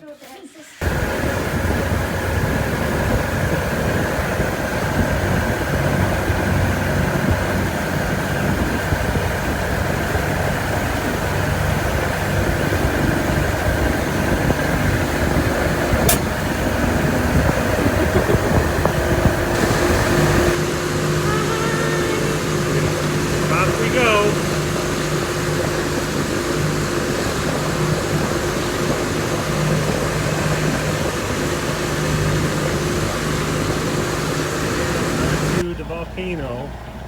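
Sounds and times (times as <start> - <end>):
motor engine running: 0.6 - 37.0.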